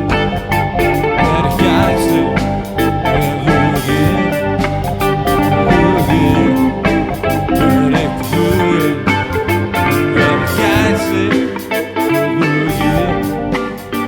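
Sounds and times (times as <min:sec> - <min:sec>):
blues guitar music: 0:00.0 - 0:14.0.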